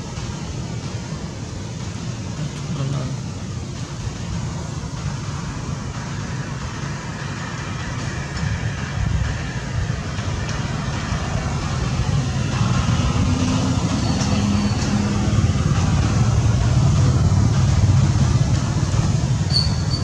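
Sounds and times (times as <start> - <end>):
loud low outdoor rumble: 0.0 - 20.0.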